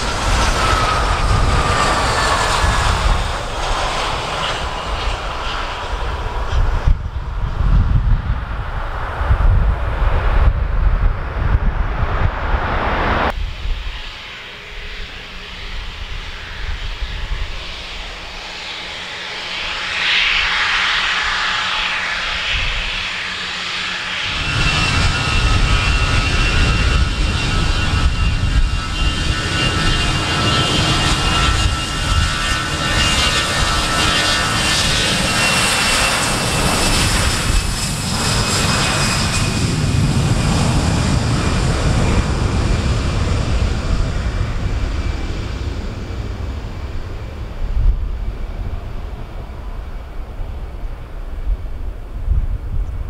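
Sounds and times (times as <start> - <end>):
wind rumble on microphone: 0.0 - 18.5, 20.2 - 53.0
jet engines roaring at takeoff: 0.0 - 53.0.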